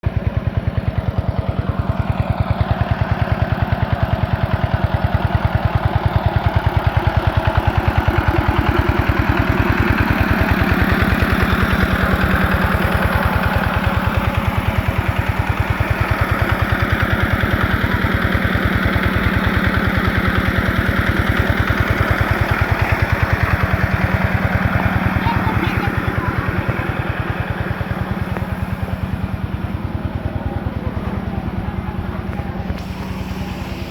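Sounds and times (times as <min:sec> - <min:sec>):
small engine idling: 0:00.0 - 0:33.9.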